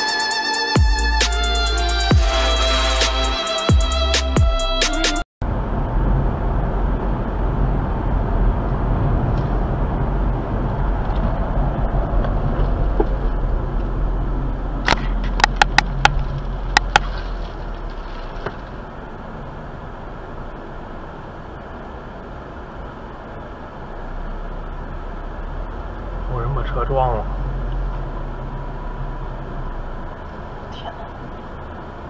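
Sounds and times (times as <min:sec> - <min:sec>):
road and engine rumble: 0:00.0 - 0:32.0.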